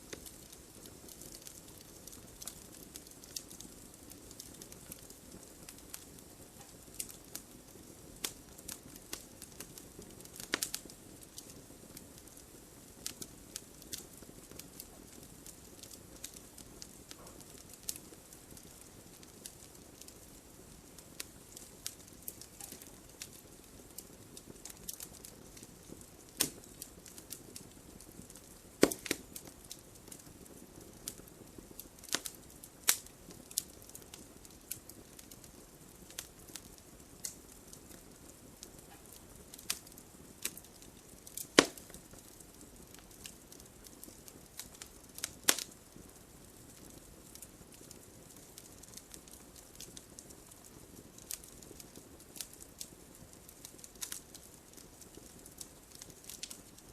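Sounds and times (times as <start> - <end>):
fire crackling and popping: 0.0 - 56.9
soft hiss of flame: 0.0 - 56.9.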